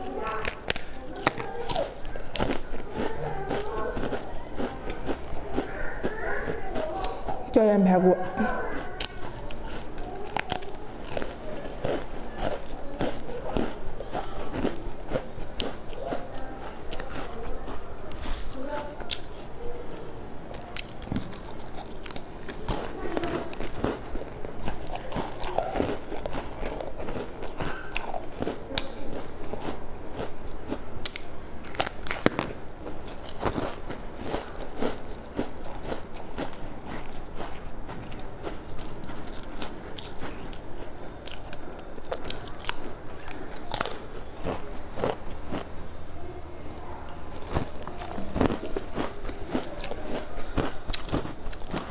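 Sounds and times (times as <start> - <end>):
chewing dry cracker crunches: 0.0 - 7.6, 8.2 - 45.8, 47.3 - 51.9.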